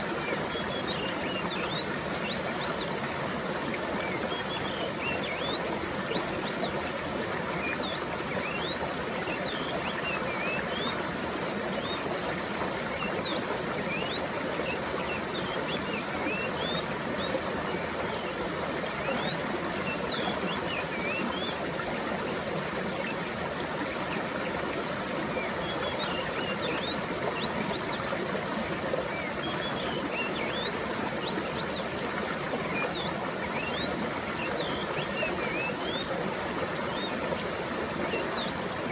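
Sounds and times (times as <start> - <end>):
stream of water flowing: 0.0 - 38.9.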